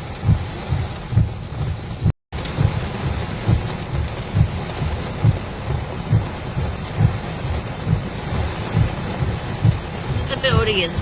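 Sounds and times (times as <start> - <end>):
heavy rain drumming on car: 0.0 - 11.0
low thumping: 0.0 - 11.0.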